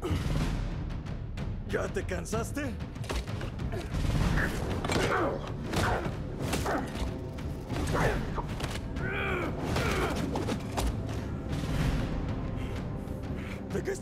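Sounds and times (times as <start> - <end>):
film score: 0.0 - 14.0.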